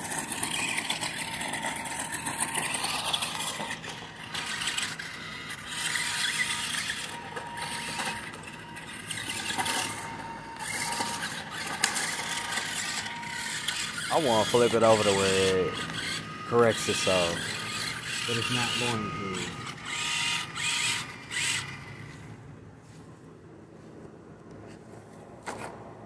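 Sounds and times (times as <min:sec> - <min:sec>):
toy truck motor whirring: 0:00.0 - 0:22.5.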